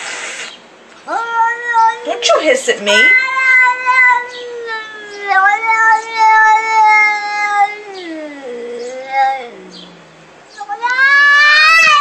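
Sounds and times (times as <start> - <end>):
cat meowing: 1.0 - 12.0.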